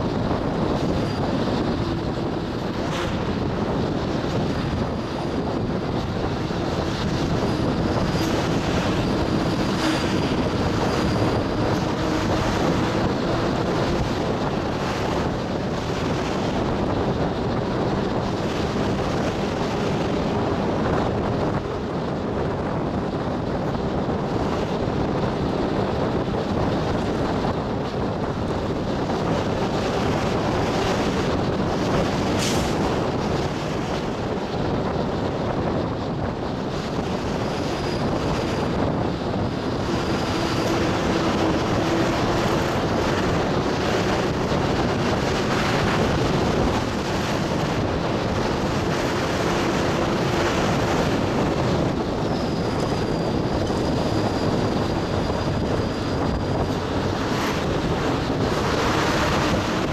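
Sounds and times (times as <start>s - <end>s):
bus engine and tyre rumble: 0.0s - 59.9s.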